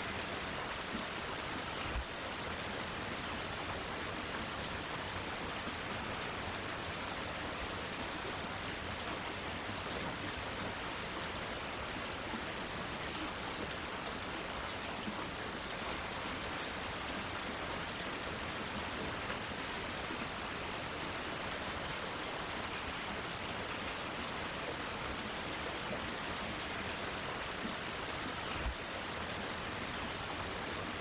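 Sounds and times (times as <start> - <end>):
rain pattering on leaves: 0.1 - 31.0.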